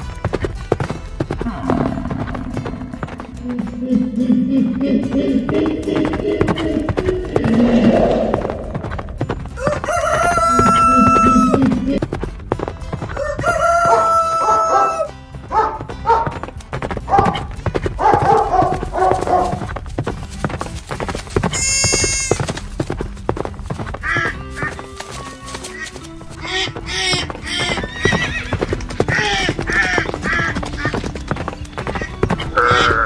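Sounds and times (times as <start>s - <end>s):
background music: 0.0s - 33.0s
animal calls: 1.4s - 12.0s, 13.2s - 16.4s, 17.1s - 19.7s, 21.5s - 22.6s, 24.0s - 33.0s.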